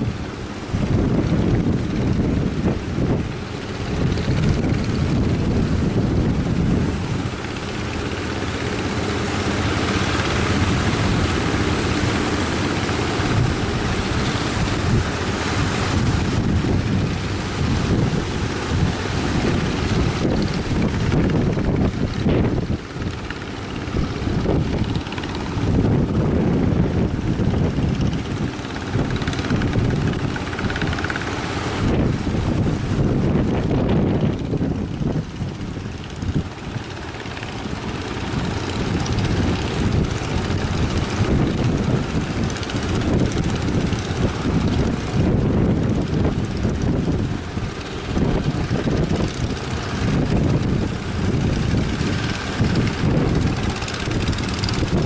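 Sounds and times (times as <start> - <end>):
boat engine running: 0.0 - 55.0
surf hissing: 0.0 - 55.0
wind rumbling on microphone: 0.0 - 55.0.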